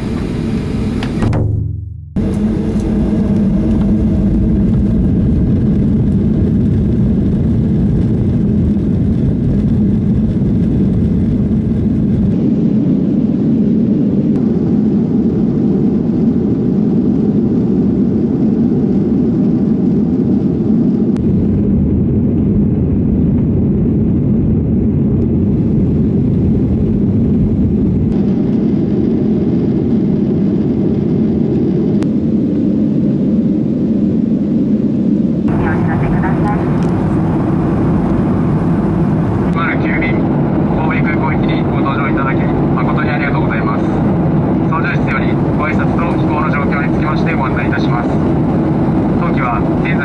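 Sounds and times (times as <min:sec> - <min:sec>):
jet engines and rushing air: 0:00.0 - 0:50.0.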